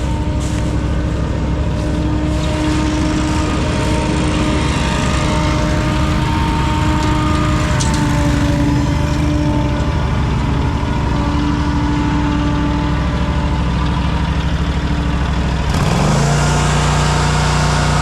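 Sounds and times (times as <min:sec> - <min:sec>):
lawn equipment engine running: 0:00.0 - 0:18.0.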